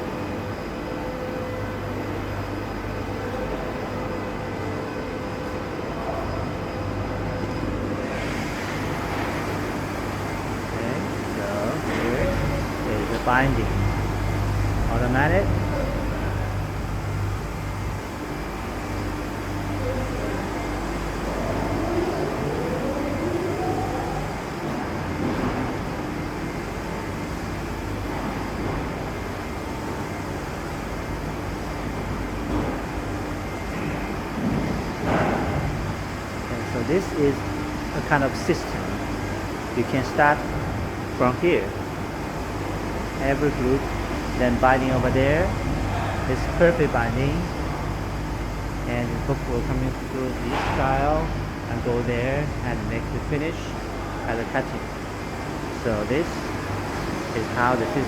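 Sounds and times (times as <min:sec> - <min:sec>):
machinery hum and whir: 0:00.0 - 0:58.0.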